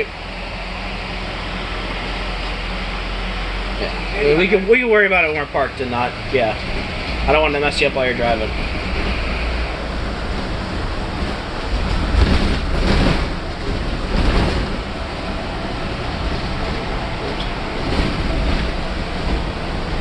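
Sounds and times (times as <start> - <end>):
bus cabin rumble: 0.0 - 20.0
road and wind noise: 0.0 - 20.0.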